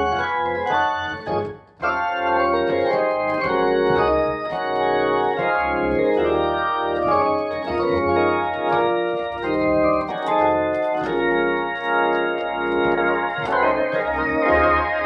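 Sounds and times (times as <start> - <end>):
organ playing chords: 0.0 - 15.0.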